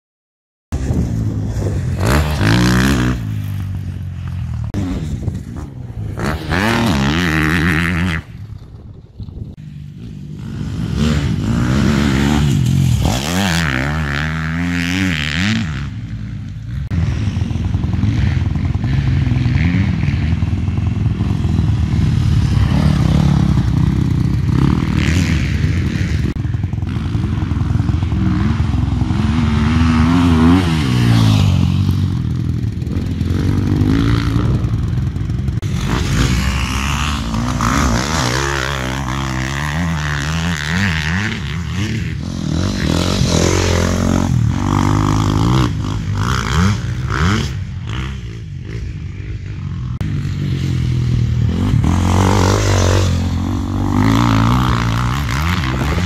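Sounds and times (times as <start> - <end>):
motorcycle engines revving: 0.8 - 56.0.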